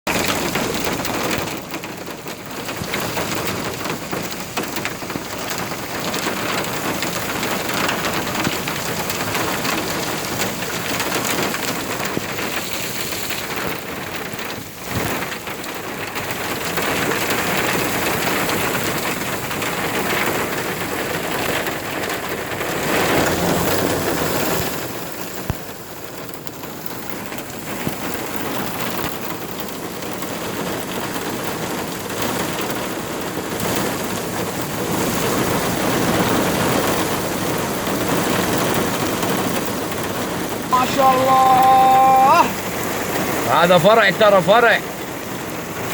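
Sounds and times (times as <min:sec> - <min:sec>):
heavy rain pouring: 0:00.1 - 0:45.9.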